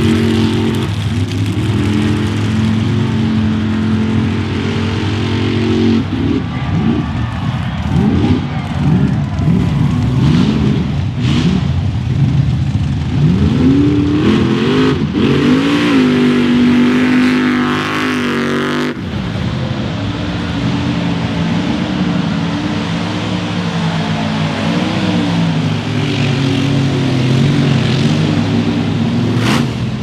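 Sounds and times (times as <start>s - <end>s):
engine running steadily: 0.0s - 30.0s
truck engine revving: 0.0s - 30.0s.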